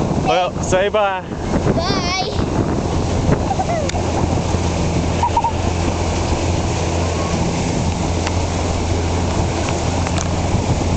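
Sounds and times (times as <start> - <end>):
outboard motor humming: 0.0 - 10.9
water rushing past: 0.0 - 10.9
wind buffeting microphone: 0.0 - 10.9.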